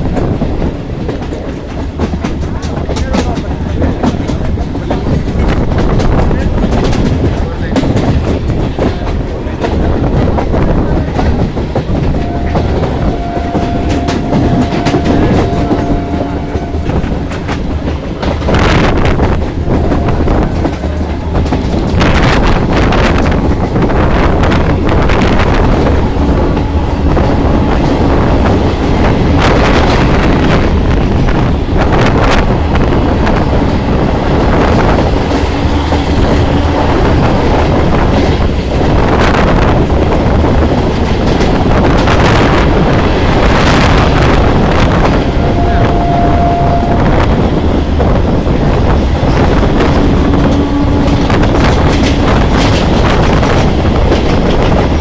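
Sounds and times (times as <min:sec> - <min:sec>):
wheels clacking over rail joints: 0:00.0 - 0:44.5, 0:47.6 - 0:55.0
train rumbling along track: 0:00.0 - 0:55.0.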